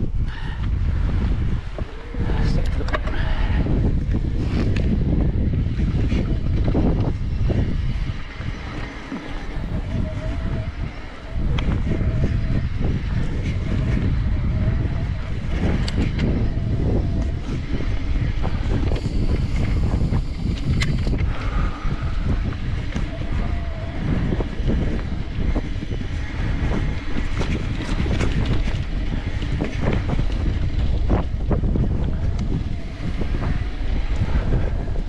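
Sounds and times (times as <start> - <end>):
bike clicks and rattles: 0.0 - 35.0
wind buffeting microphone: 0.0 - 35.0.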